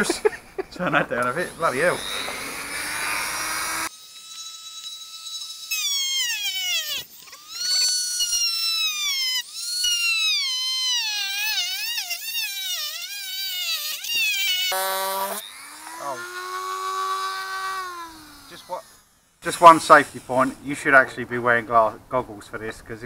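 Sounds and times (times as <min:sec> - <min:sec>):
rotary tool cutting plastic: 0:01.2 - 0:20.6.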